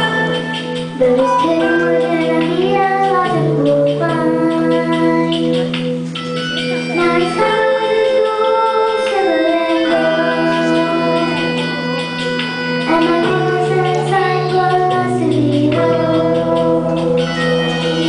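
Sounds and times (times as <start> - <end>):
instrumental accompaniment: 0.0 - 18.0
children singing: 1.0 - 5.7, 6.9 - 18.0.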